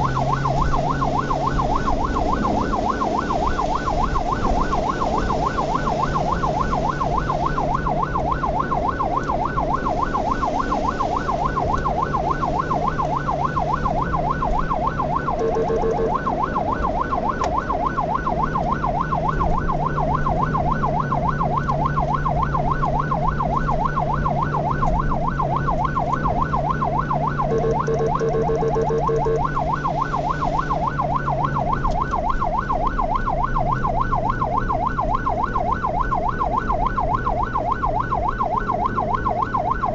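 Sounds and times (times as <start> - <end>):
engine drone: 0.0 - 32.0
ambulance siren yelping: 0.0 - 39.9.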